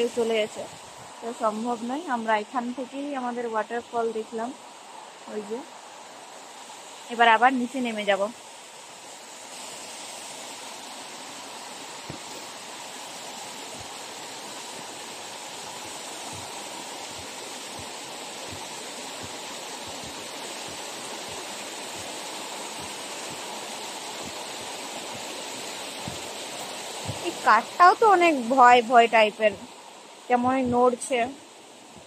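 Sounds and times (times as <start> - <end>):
waterfall and stream rushing: 0.0 - 32.0.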